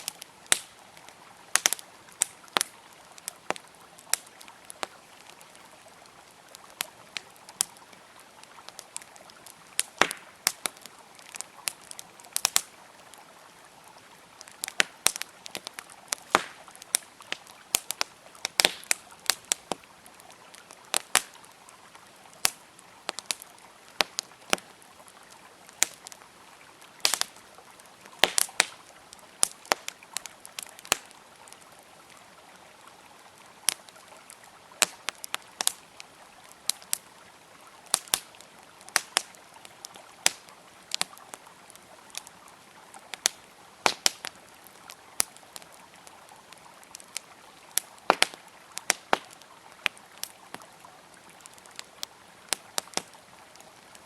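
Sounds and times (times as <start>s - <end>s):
campfire crackling and popping: 0.0s - 54.0s
river flowing: 0.0s - 54.0s.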